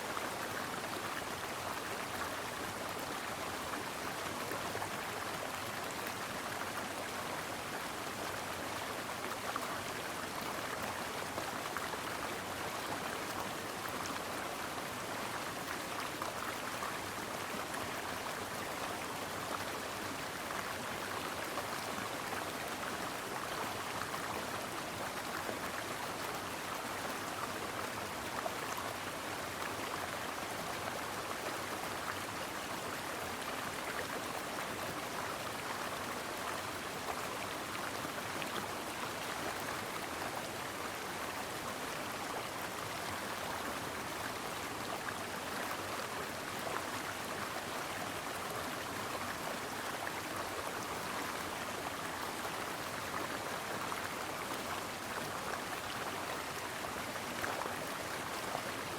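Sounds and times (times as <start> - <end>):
brook water flowing: 0.0 - 58.9.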